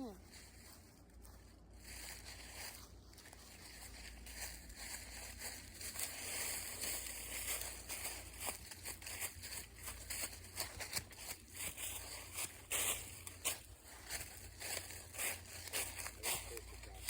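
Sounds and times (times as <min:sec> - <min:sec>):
footsteps crunching on leaves: 0:00.1 - 0:17.0.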